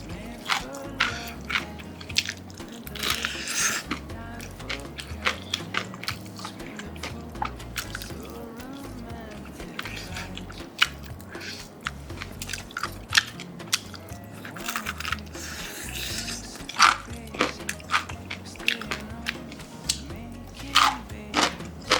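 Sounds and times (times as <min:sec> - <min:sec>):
crunching and chewing fried chicken: 0:00.0 - 0:21.9.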